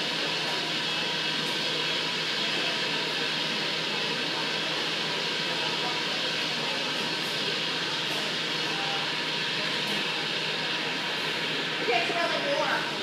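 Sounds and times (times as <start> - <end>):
steady machine noise: 0.0 - 13.0.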